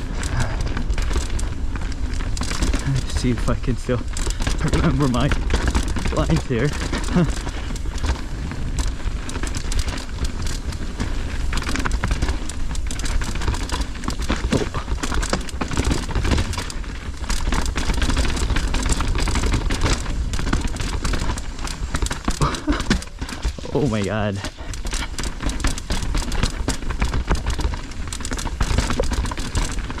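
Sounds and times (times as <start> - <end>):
bike rattling: 0.0 - 30.0
bike tyres rolling over dirt: 0.0 - 30.0
low wind rumble: 0.0 - 30.0.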